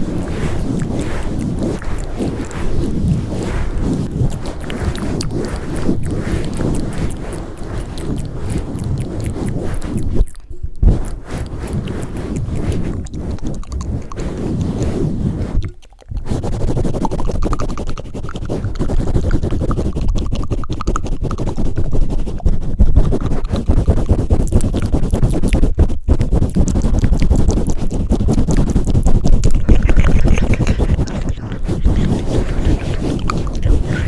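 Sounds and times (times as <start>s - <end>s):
hands rubbing microphone windscreen: 0.0s - 34.0s.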